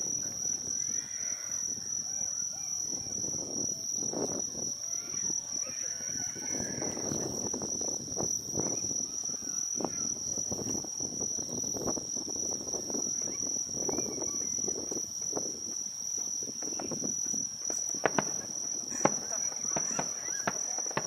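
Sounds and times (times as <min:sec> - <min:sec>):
insects trilling: 0:00.0 - 0:21.0
murmur of people talking: 0:00.0 - 0:21.0.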